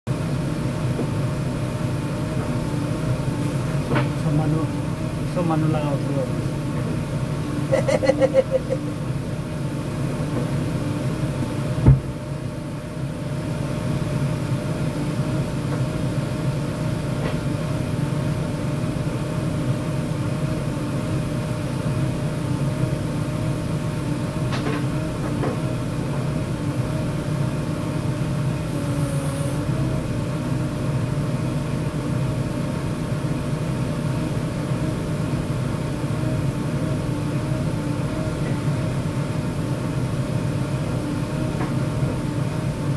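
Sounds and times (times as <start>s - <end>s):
diesel engine idling: 0.1s - 42.9s.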